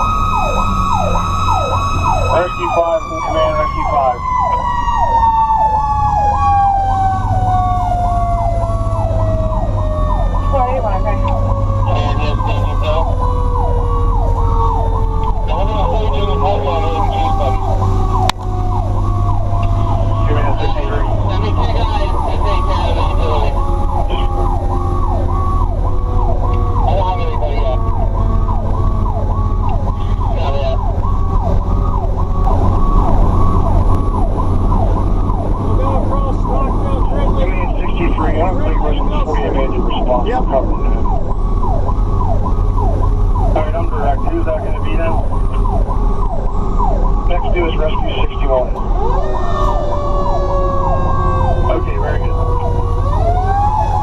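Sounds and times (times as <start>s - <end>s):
electronic siren yelp: 0.0s - 54.0s
mechanical siren wail: 0.0s - 54.0s
road noise: 0.0s - 54.0s
truck engine rumbling: 0.0s - 54.0s.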